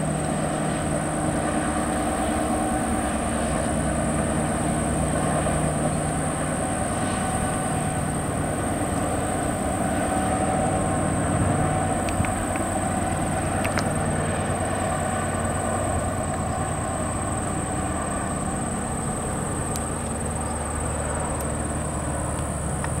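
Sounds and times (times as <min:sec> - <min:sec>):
distant train rumbling: 0:00.0 - 0:23.0.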